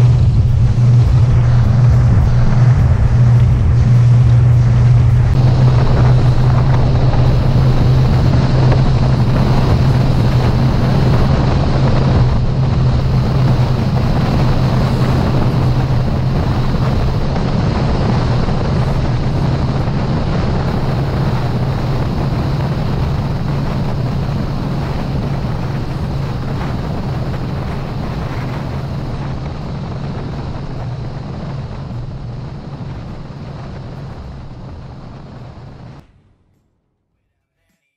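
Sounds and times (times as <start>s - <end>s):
outboard motor droning: 0.0s - 36.0s
water rushing past hull: 0.0s - 36.0s
wind buffeting microphone: 0.0s - 36.0s.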